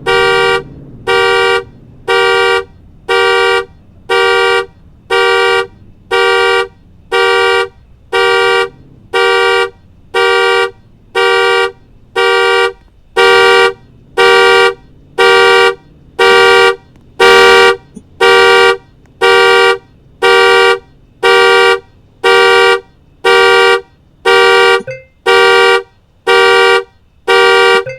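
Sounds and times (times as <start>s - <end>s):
car horn alarm honking: 0.0s - 27.9s.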